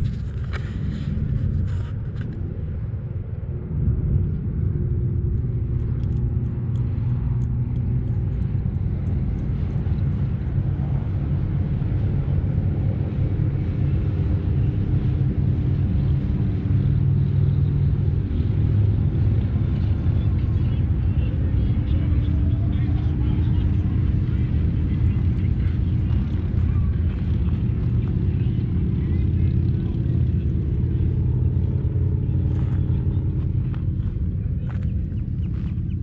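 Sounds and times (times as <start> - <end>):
faint hum: 0.0 - 36.0
low rumble: 0.0 - 36.0.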